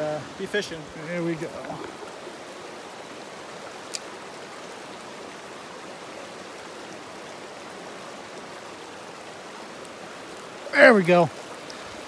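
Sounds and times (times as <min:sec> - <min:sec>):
creek flowing over stones: 0:00.0 - 0:12.0.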